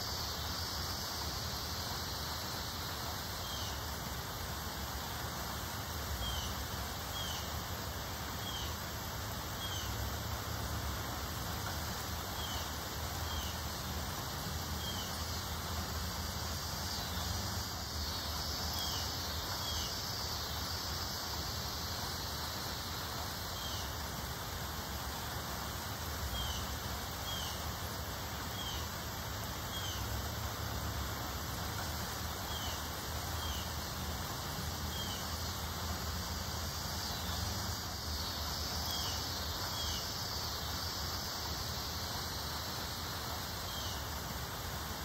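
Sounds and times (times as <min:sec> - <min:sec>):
wind rustling leaves: 0:00.0 - 0:45.0.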